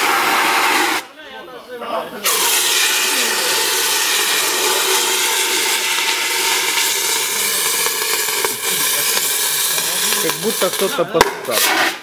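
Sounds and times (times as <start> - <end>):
fire extinguisher hissing: 0.0 - 1.1, 2.2 - 12.0.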